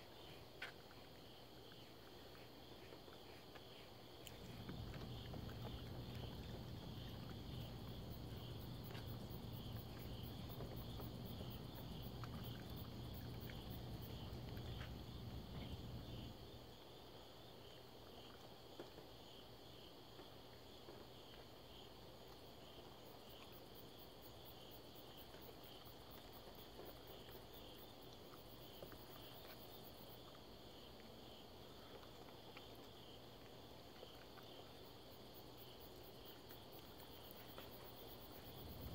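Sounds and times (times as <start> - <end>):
night insects chirping: 0.0 - 38.9.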